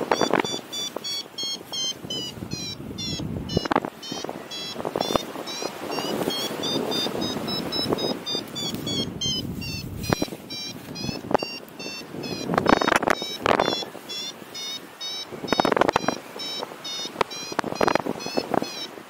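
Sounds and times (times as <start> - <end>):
variometer beeping quickly: 0.0 - 19.0
wind buffeting microphone: 0.0 - 19.0.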